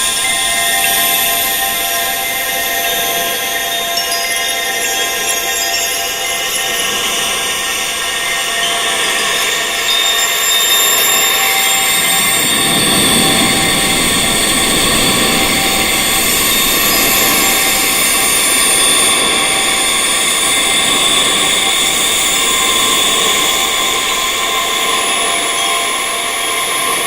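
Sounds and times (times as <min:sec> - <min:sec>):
wind chimes ringing: 0:00.0 - 0:27.0
hiss: 0:05.2 - 0:27.0.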